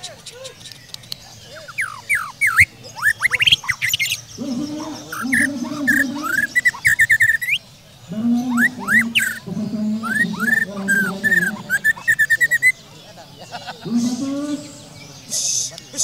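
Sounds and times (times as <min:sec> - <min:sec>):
bird singing whistled notes: 0:00.0 - 0:12.8.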